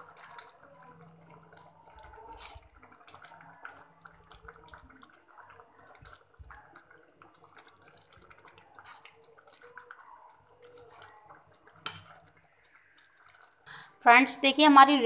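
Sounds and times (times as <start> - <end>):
mixture squelching and slopping: 0.0 - 14.1.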